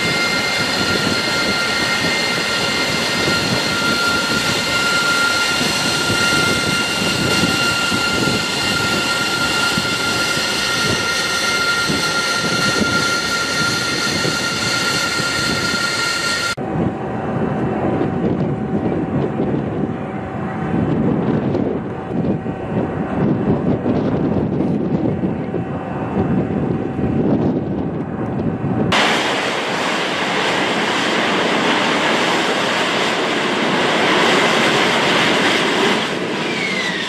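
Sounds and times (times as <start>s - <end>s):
high turbine whine: 0.0s - 37.0s
jet engine roar: 0.0s - 37.0s.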